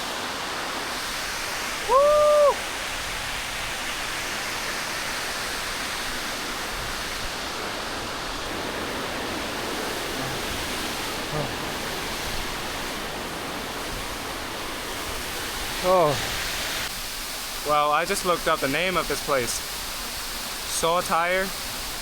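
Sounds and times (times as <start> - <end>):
waterfall crashing: 0.0 - 22.0.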